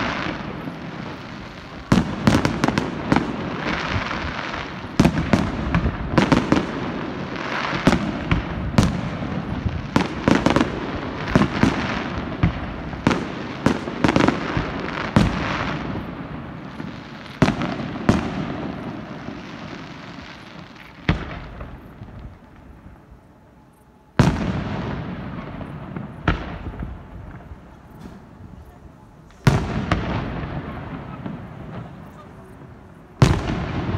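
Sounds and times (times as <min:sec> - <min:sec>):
fireworks bursting: 0:00.0 - 0:33.9
fireworks crackle: 0:00.0 - 0:33.9.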